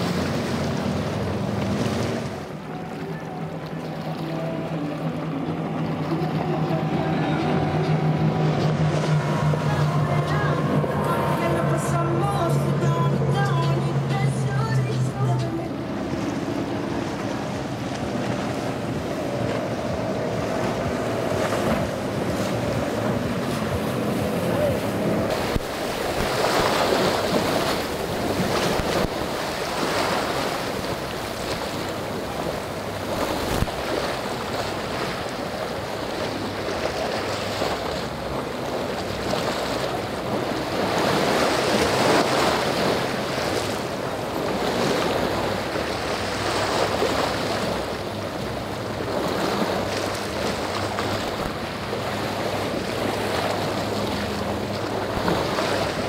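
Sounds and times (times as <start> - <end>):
boat outboard engines humming: 0.0 - 56.0
rough surf and churning water: 0.0 - 56.0
wind buffeting microphone: 4.4 - 56.0.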